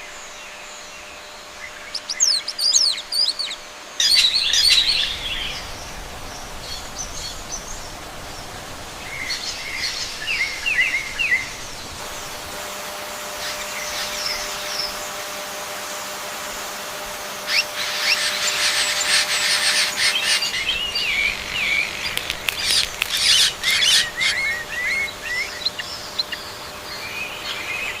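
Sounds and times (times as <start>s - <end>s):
songbirds chirping: 0.0s - 12.0s, 17.5s - 28.0s.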